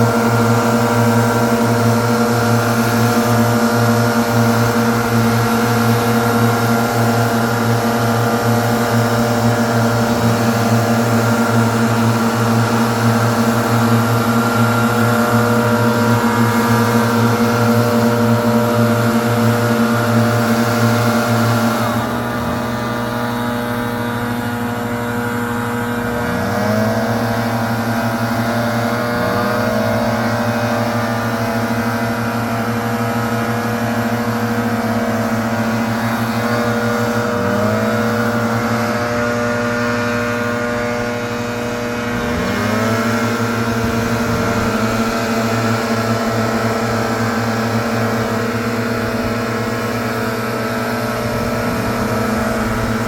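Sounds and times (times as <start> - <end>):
leaf blower engine running: 0.0 - 53.0.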